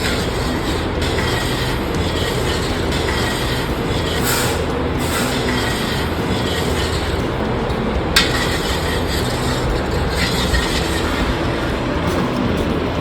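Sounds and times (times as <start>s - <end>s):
mechanical rumbling and rattling: 0.0s - 13.0s.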